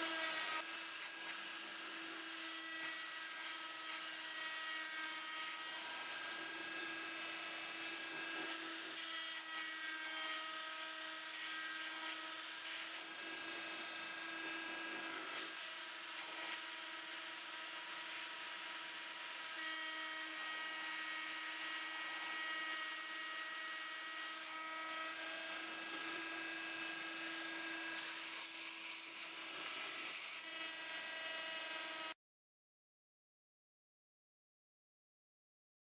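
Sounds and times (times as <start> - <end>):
rotary tool whining: 0.0 - 32.2.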